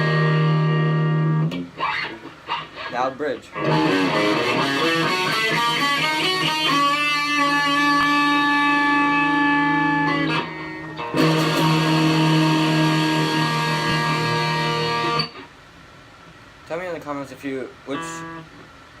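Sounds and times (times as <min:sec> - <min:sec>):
electric guitar: 0:00.0 - 0:15.5, 0:17.9 - 0:18.7.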